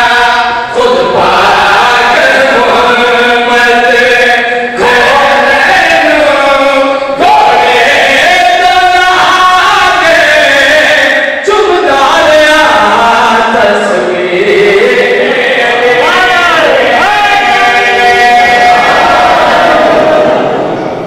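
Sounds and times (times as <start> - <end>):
man chanting into a microphone: 0.0 - 19.6.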